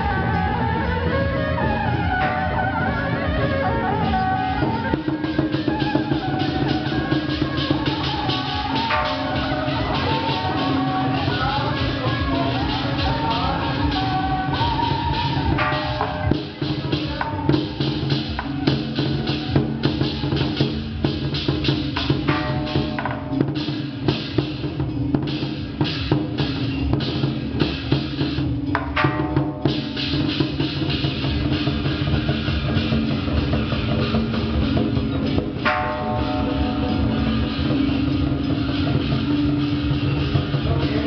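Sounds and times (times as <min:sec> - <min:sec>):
drum cymbals and gongs striking: 0:00.0 - 0:41.0
pitched music bed: 0:00.0 - 0:41.0.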